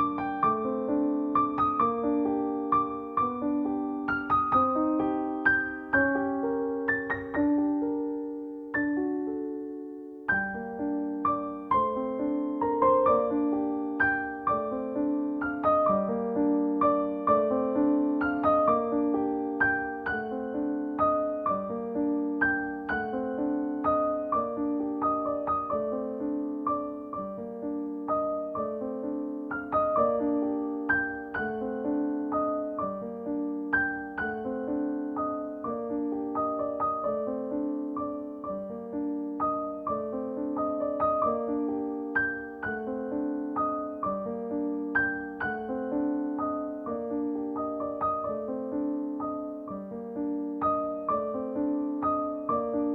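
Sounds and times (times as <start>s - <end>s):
gentle piano music: 0.0s - 52.9s.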